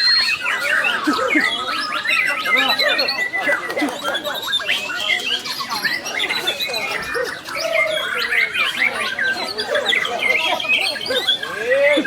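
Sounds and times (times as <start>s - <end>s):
songbird whistling song: 0.0s - 12.0s.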